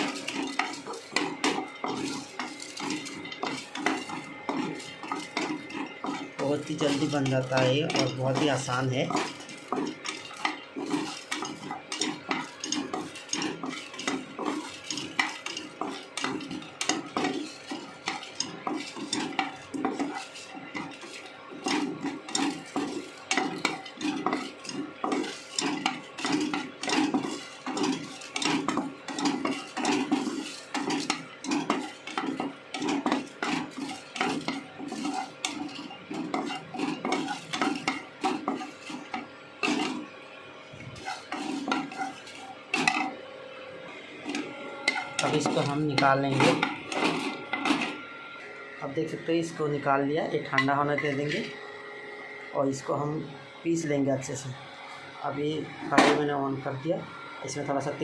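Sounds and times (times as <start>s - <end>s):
metal spatula scraping a pan: 0.0s - 43.2s, 43.9s - 48.1s, 50.4s - 51.6s, 55.6s - 56.3s.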